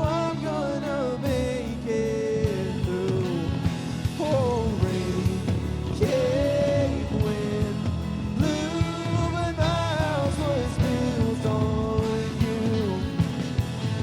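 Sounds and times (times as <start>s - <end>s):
drums: 0.0s - 14.0s
guitars: 0.0s - 14.0s
person singing: 0.0s - 14.0s
worship band playing: 0.0s - 14.0s.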